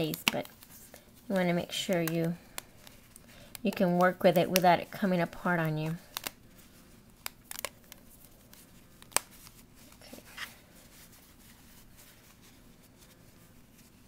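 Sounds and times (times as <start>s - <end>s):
fabric and rubber band handling: 0.0s - 14.0s.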